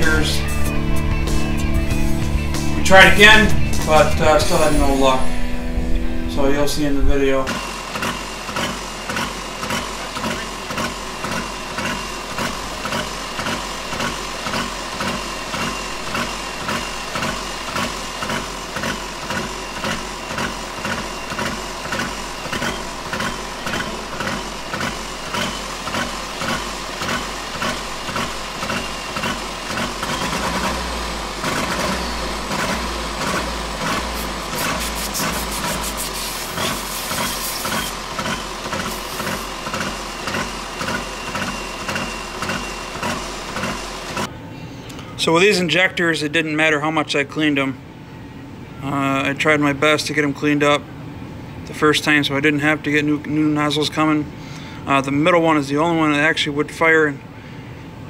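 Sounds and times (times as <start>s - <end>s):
diesel engine running rough: 0.0s - 45.1s, 47.8s - 58.0s.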